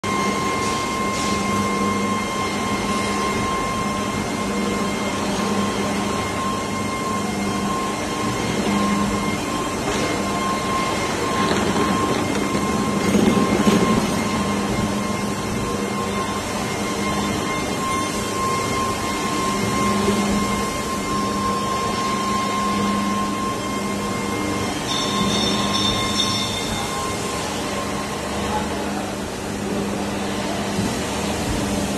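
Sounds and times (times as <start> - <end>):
high machine whine: 0.0 - 31.9
machinery hum: 0.0 - 31.9.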